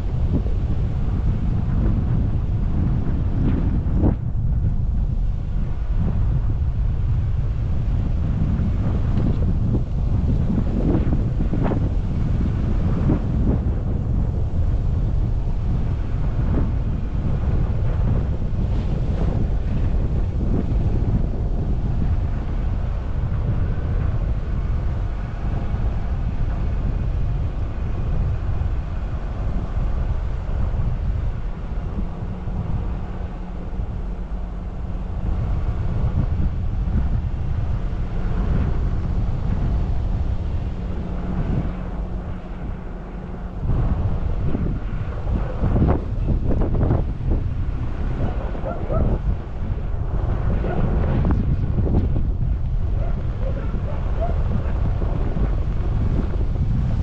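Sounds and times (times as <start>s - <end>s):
engine and tyres rumbling: 0.0s - 57.0s
wind buffeting microphone: 0.0s - 57.0s.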